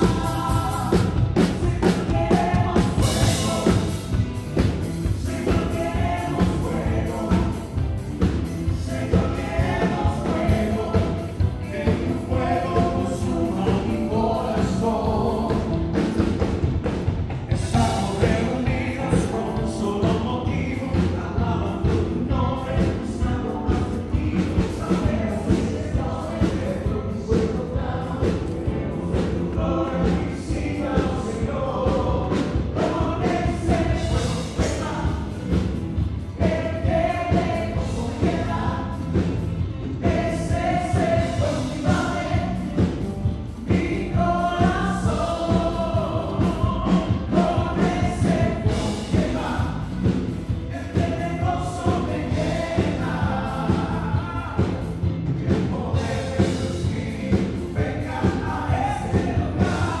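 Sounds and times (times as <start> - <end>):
piano and synth keyboards: 0.0 - 60.0
voices singing together: 0.0 - 60.0.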